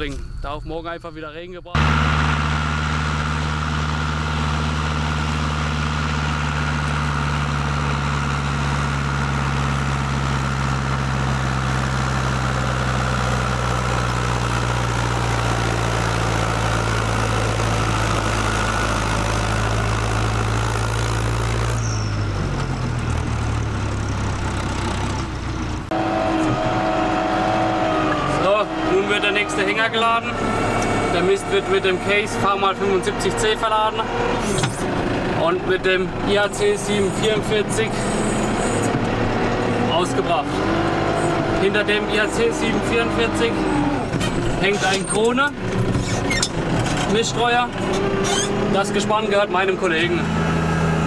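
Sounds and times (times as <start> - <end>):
engine with wavering whine: 0.0 - 51.0
tractor diesel engine running: 0.0 - 51.0.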